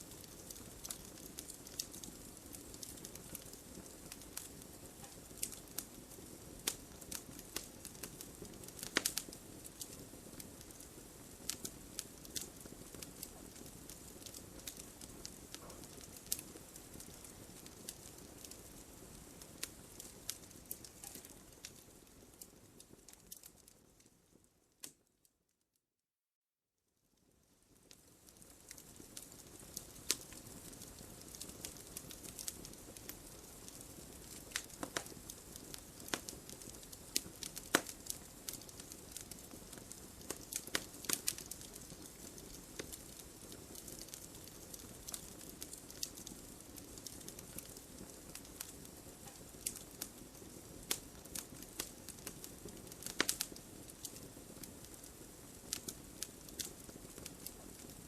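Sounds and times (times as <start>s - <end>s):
wood fire crackling: 0.0s - 25.2s, 27.1s - 58.0s.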